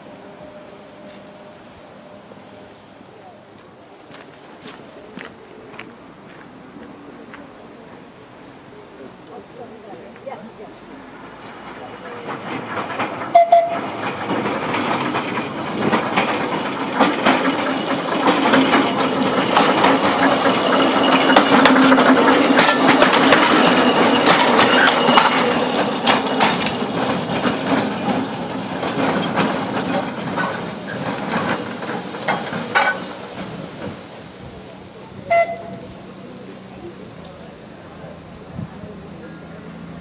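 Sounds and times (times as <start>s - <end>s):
tram low hum: 0.0s - 40.0s
tram wheels clicking on rails: 0.0s - 40.0s.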